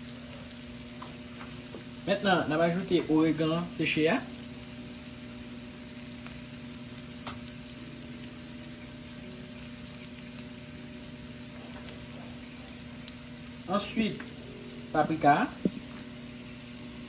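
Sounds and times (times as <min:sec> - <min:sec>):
constant low hum: 0:00.0 - 0:17.0
potatoes sizzling in butter: 0:00.0 - 0:17.0.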